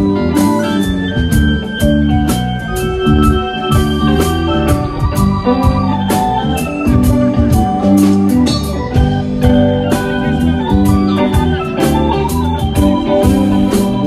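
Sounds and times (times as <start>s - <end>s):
bass: 0.0s - 14.0s
held chords ringing: 0.0s - 14.0s
steady drum beat: 0.0s - 14.0s.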